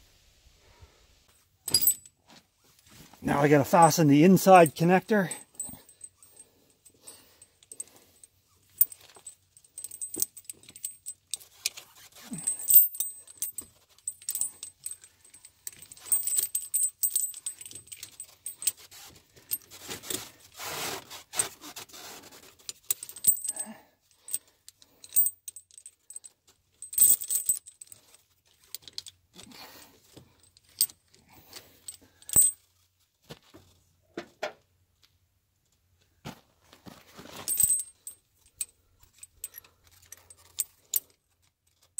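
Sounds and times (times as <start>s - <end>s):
chain links clinking and rattling: 1.6s - 2.3s, 3.2s - 32.9s, 37.2s - 41.9s.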